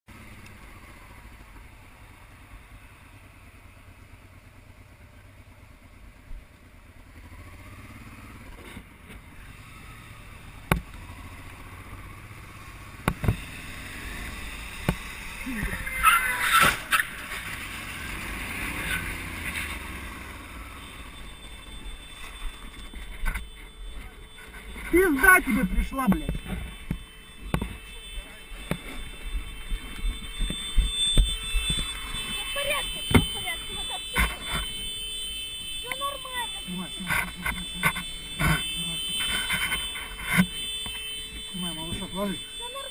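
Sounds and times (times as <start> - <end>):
motorcycle engine: 0.1 - 42.9.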